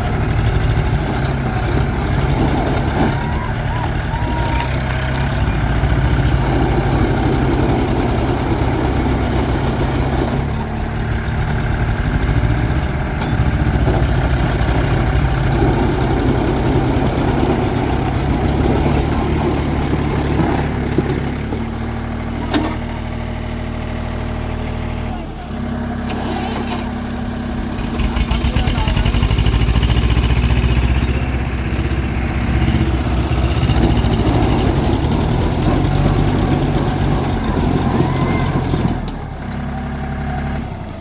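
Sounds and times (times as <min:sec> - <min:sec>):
tractor diesel engines under load: 0:00.0 - 0:41.0.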